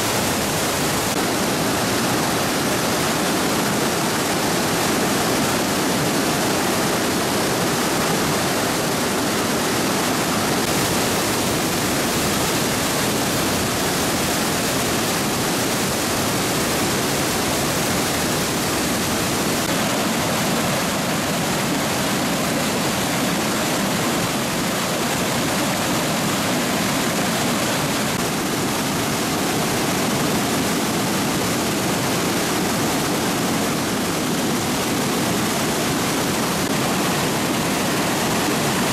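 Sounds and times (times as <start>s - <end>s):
rushing whitewater rapids: 0.0s - 38.9s.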